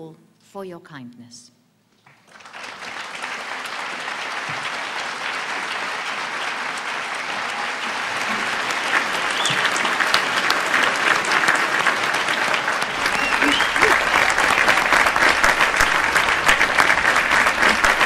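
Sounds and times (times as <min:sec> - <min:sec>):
audience applause: 0:02.1 - 0:18.0.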